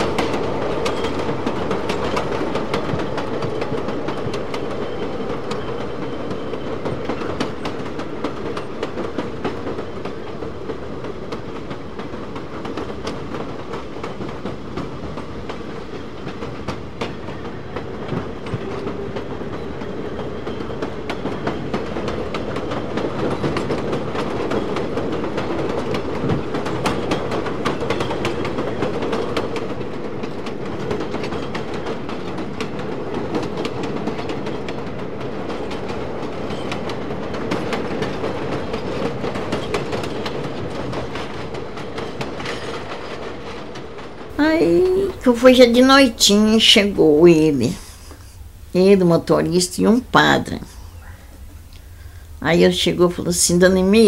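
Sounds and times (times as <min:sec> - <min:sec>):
train wheels clattering on track: 0:00.0 - 0:44.4
steady train drone: 0:00.0 - 0:54.0.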